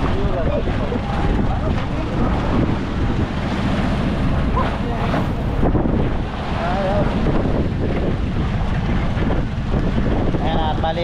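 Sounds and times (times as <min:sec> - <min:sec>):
sea waves: 0:00.0 - 0:11.0
wind buffeting microphone: 0:00.0 - 0:11.0.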